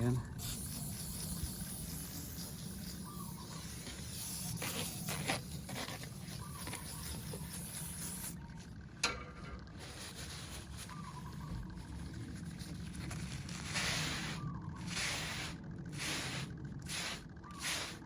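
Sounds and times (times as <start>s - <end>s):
metal rubbing on sandpaper: 0.0s - 8.4s, 9.8s - 18.0s.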